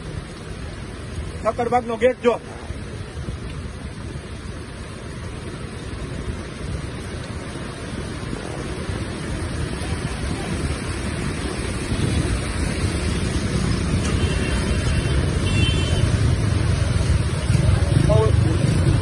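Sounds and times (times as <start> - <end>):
floodwater rushing with low rumble: 0.0 - 19.0.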